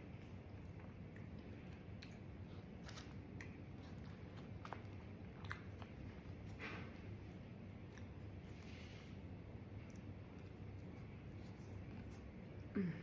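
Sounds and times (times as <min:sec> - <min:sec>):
person chewing food: 0:00.0 - 0:12.7.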